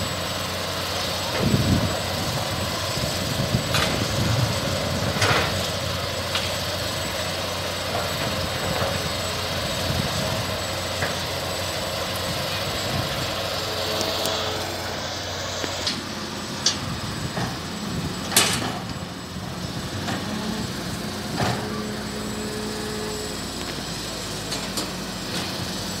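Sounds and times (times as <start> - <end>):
engine rumble: 0.0 - 26.0.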